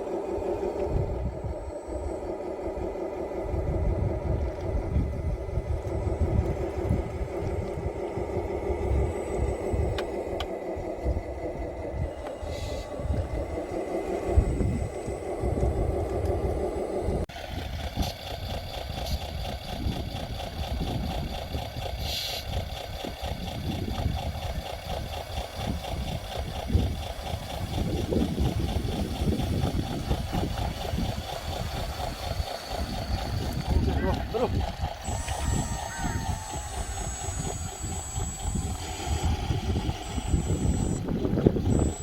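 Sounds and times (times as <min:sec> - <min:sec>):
small motors whining: 0:00.0 - 0:42.0.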